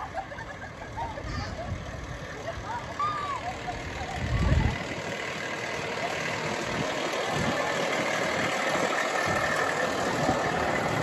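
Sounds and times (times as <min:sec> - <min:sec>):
fire engine motor running: 0:00.0 - 0:11.0.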